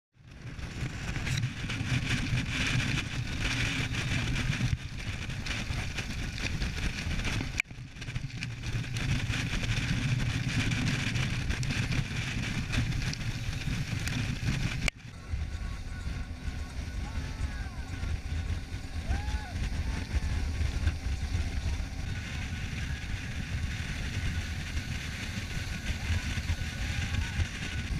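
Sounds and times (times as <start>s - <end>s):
speedboat engine roaring: 0.2s - 27.9s
water rushing along hull: 0.3s - 27.9s.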